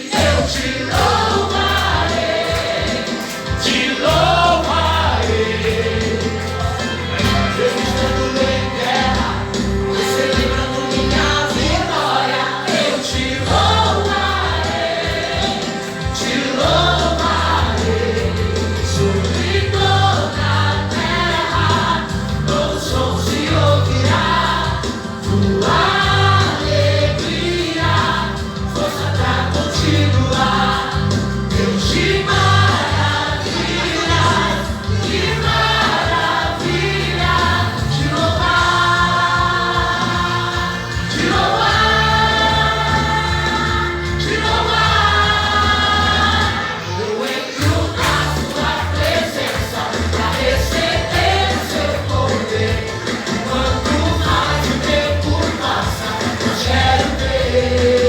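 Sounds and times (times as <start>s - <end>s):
choir singing gospel song: 0.0s - 58.0s
band with bass line: 0.2s - 46.8s, 47.6s - 58.0s.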